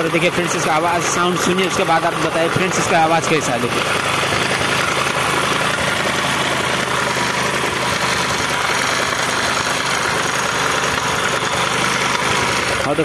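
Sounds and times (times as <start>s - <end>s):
abnormal mechanical noise: 0.0s - 13.0s
motorcycle engine idling: 0.0s - 13.0s.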